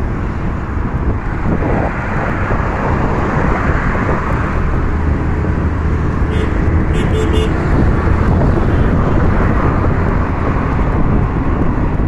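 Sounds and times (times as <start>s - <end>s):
scooter engine and road noise: 0.0s - 12.0s
wind rush on microphone: 0.0s - 12.0s.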